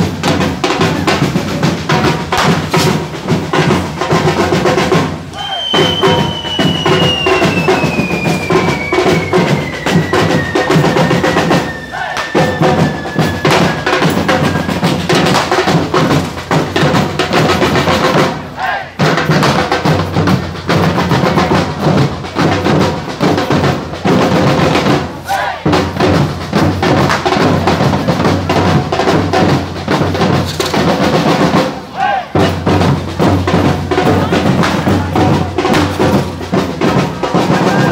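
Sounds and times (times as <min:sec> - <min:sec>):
bass drums: 0:00.0 - 0:11.7, 0:12.4 - 0:18.4, 0:19.0 - 0:31.7, 0:32.4 - 0:37.9
snare drums: 0:00.0 - 0:37.9.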